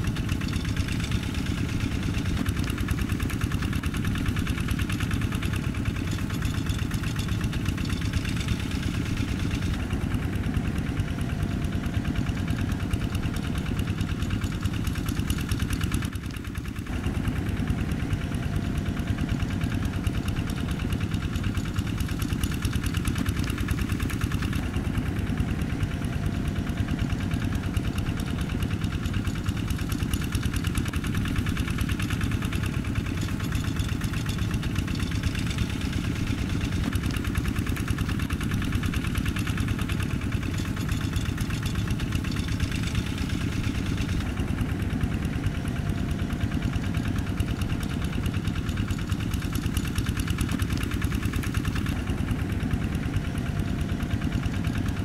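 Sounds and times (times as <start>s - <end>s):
walking tractor diesel engine: 0.0s - 55.0s.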